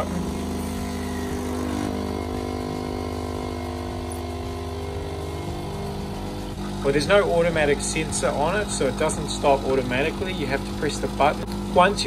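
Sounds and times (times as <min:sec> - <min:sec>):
espresso machine pump buzzing: 0:00.0 - 0:12.0.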